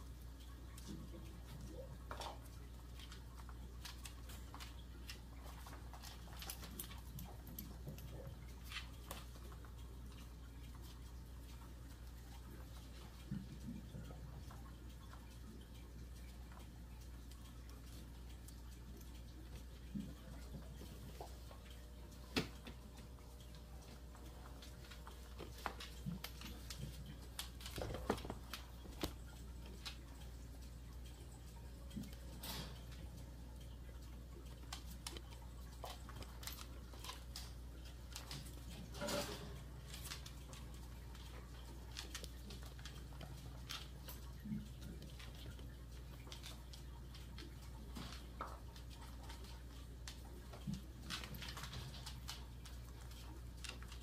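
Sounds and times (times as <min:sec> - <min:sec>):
dog claws clicking on floor: 0:00.0 - 0:33.4, 0:34.0 - 0:54.0
faint low hum: 0:00.0 - 0:54.0.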